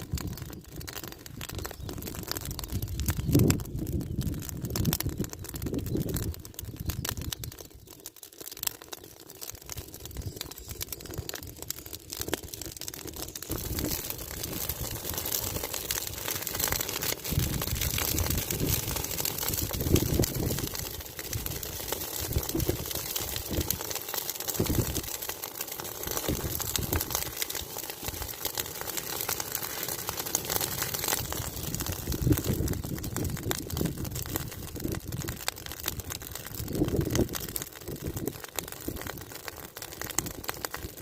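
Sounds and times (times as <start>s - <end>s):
dry leaves crackling in fire: 0.0s - 41.0s.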